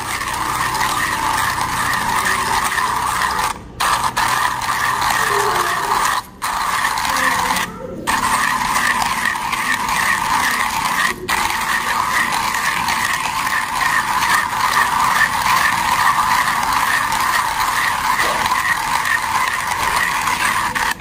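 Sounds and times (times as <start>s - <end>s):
coffee grinder grinding beans: 0.0s - 21.0s.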